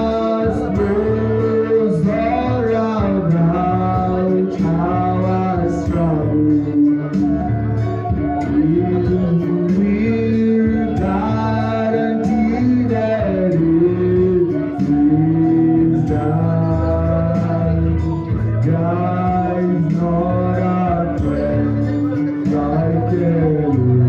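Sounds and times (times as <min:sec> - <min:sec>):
instrumental accompaniment: 0:00.0 - 0:24.0
slow hymn singing: 0:00.0 - 0:24.0
sustained bass: 0:00.0 - 0:24.0.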